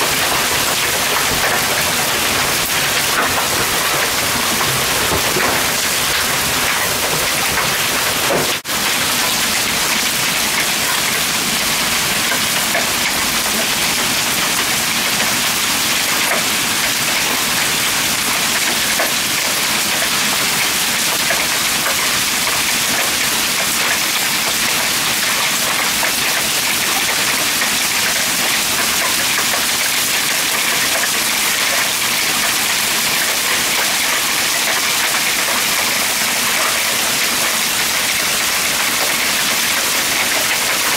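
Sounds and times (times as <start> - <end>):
hail and heavy rain pelting: 0.0 - 40.9.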